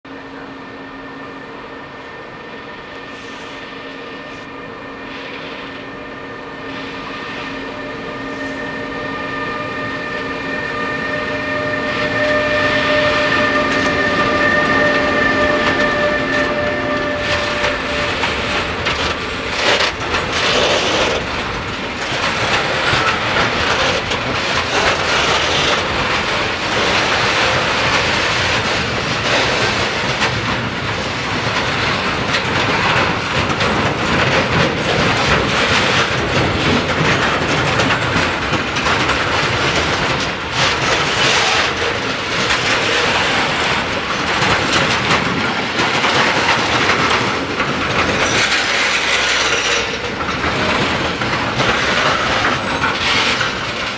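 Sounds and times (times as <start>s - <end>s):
freight train rolling past: 0.1s - 53.9s
wheels clattering over rail joints: 10.4s - 53.9s.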